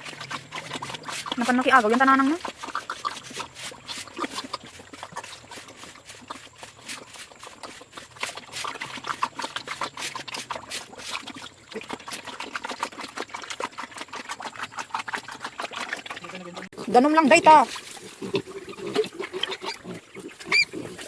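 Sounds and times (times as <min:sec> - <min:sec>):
pigs slurping water: 0:00.0 - 0:21.0.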